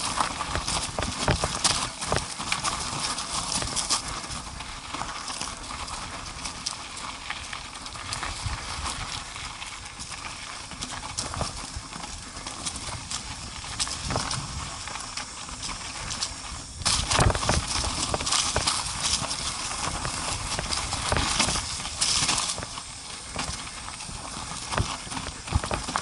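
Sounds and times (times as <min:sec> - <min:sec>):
atv clattering over rough trail: 0:00.0 - 0:26.0.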